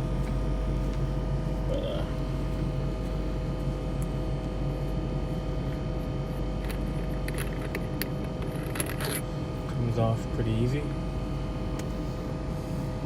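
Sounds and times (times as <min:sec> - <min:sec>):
low hum inside car cabin: 0:00.0 - 0:13.0.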